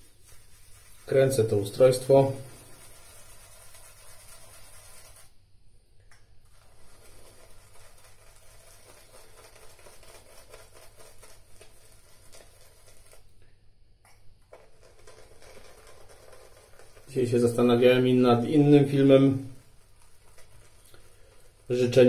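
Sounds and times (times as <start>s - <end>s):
shaving brush rubbing on soap: 0.0s - 5.3s, 6.4s - 13.3s, 14.5s - 22.0s.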